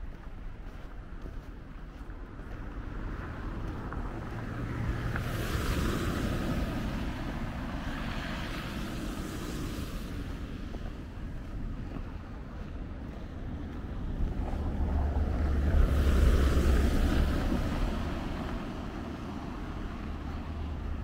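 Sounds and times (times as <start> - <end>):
car tyres on wet road: 0.0 - 21.0.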